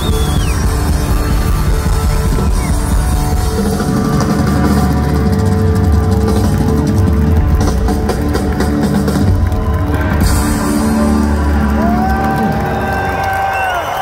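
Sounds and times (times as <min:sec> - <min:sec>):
live rock band playing: 0:00.0 - 0:13.7
drum kit: 0:00.0 - 0:14.0
guitar: 0:00.0 - 0:14.0.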